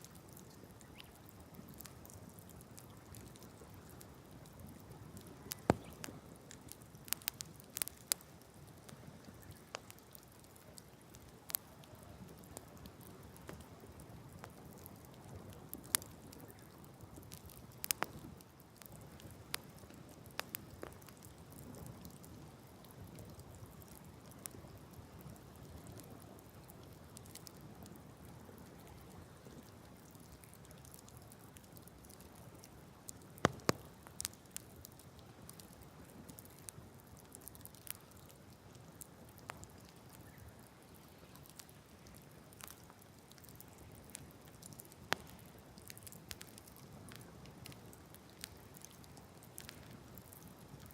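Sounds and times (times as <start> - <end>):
bonfire crackling and popping: 0.0 - 50.9.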